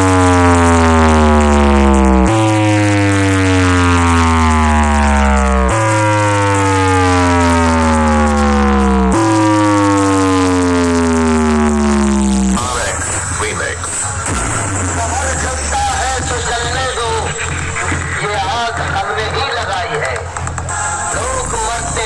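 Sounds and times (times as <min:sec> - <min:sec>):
deep bass drone: 0:00.0 - 0:22.0.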